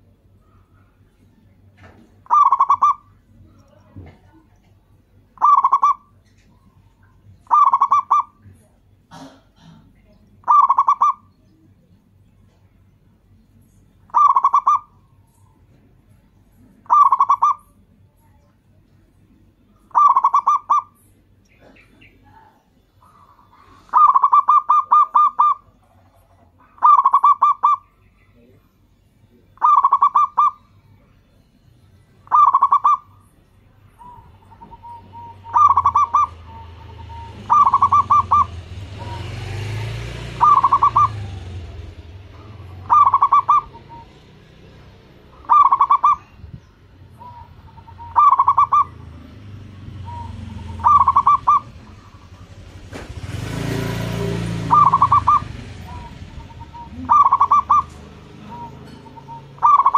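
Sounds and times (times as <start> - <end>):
dove cooing: 0.0 - 11.8, 14.0 - 15.7, 16.6 - 17.9, 19.6 - 28.0, 29.6 - 30.8, 32.2 - 59.9.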